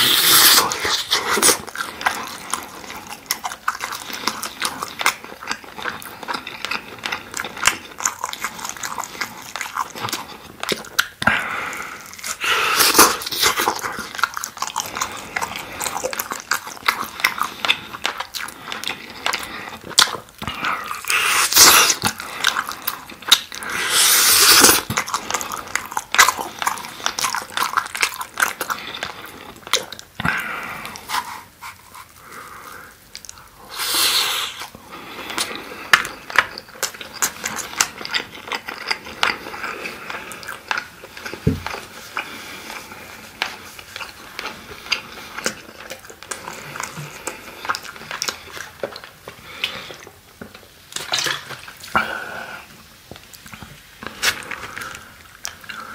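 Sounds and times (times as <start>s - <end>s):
biting and chewing food: 0.0s - 55.9s.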